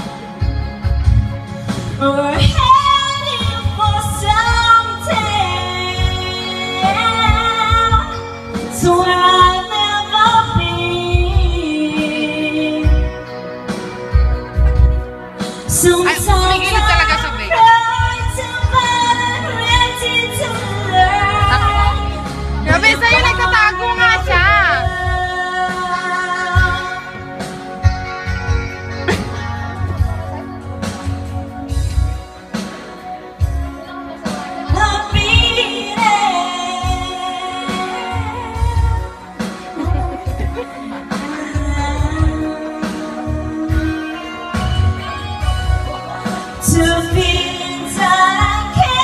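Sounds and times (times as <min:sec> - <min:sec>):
backing track music: 0:00.0 - 0:49.0
woman singing into a microphone: 0:01.9 - 0:14.8, 0:15.4 - 0:28.4, 0:33.4 - 0:49.0.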